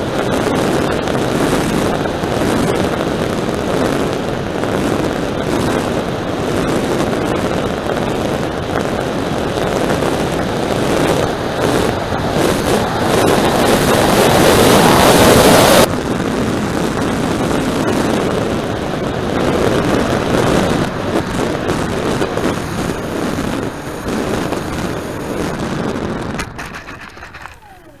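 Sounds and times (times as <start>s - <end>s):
propeller whirring: 0.0s - 28.0s
wind rushing over airframe: 0.0s - 28.0s.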